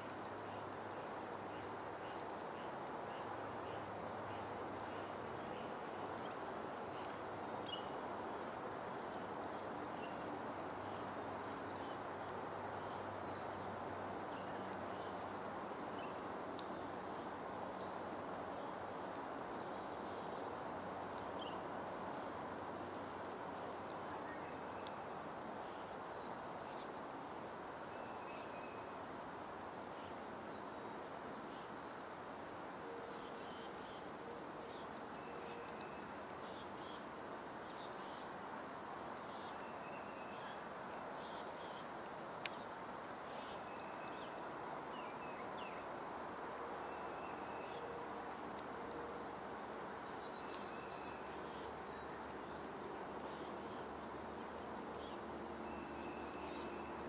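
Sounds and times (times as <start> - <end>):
insects trilling: 0.0 - 57.0
soft steady hiss: 0.0 - 57.0.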